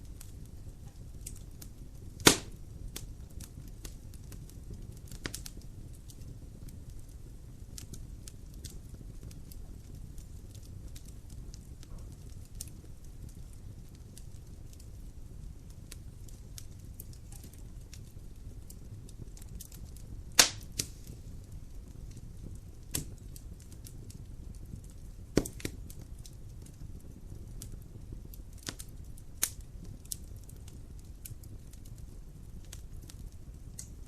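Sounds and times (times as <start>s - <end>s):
sharp pops of fire: 0.0s - 34.0s
wood fire crackling: 0.0s - 34.0s.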